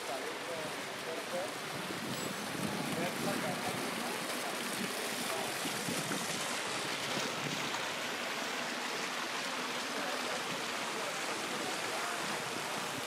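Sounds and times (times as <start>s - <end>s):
fountain jets splashing into pool: 0.0s - 13.0s.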